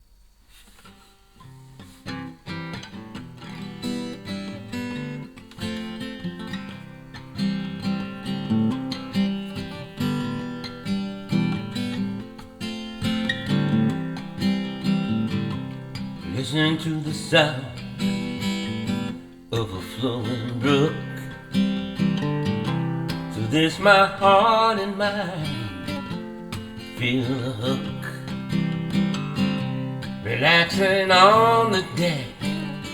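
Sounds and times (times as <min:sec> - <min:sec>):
acoustic guitar strumming: 0:00.6 - 0:32.9.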